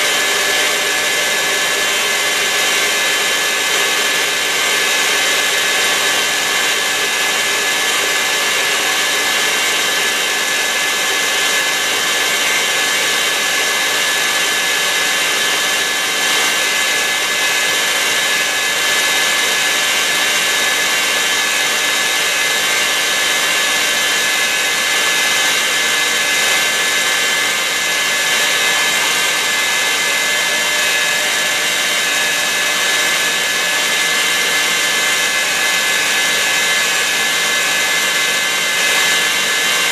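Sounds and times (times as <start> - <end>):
stand mixer whisking: 0.0 - 39.9.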